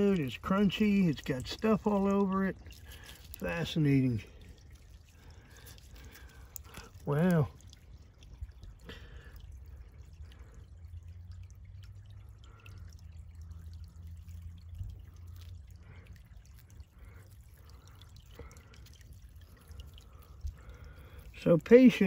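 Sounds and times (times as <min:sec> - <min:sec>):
creek water trickling over stones: 0:00.0 - 0:22.0
low steady rumble: 0:00.0 - 0:22.0.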